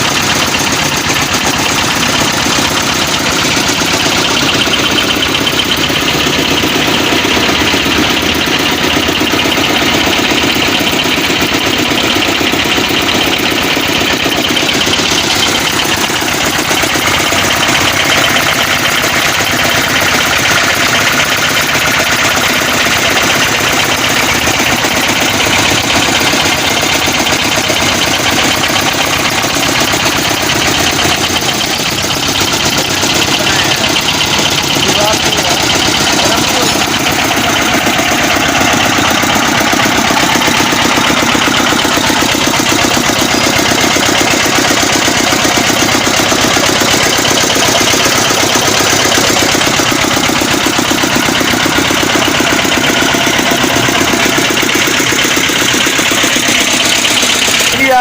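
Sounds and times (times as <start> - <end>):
stationary diesel engine chugging: 0.0 - 58.0.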